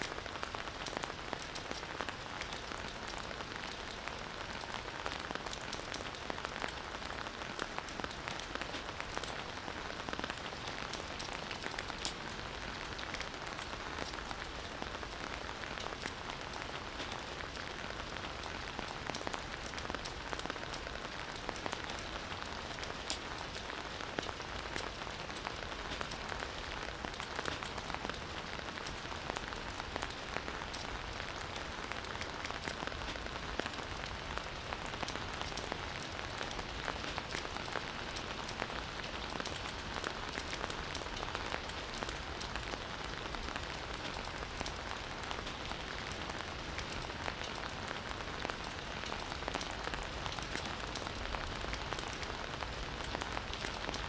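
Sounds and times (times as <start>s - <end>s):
campfire crackling and hissing: 0.0s - 54.0s.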